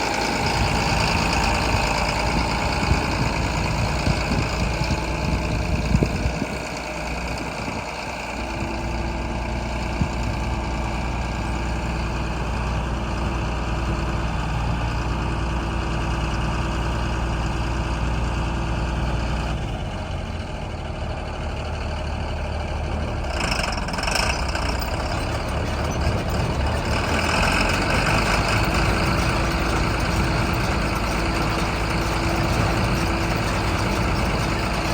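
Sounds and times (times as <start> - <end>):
tractor and baler machinery running: 0.0 - 34.9.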